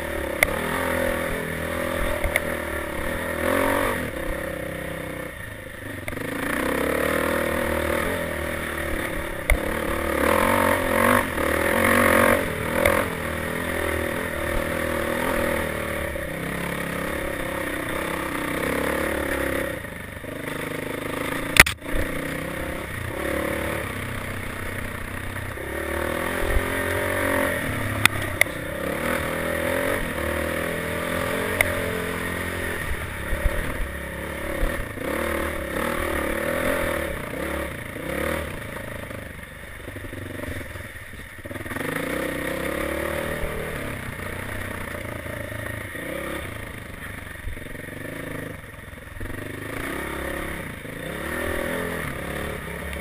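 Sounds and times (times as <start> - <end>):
dirt bike engine revving: 0.0 - 39.2, 39.9 - 53.0.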